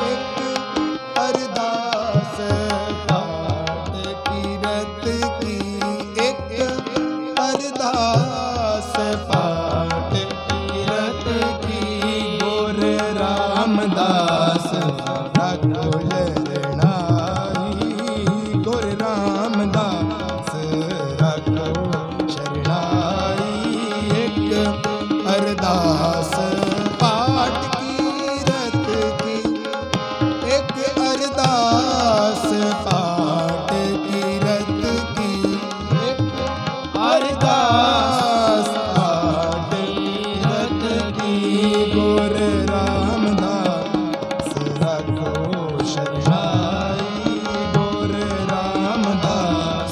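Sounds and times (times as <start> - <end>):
harmonium chords and melody: 0.0 - 49.9
tabla strokes: 0.0 - 49.9.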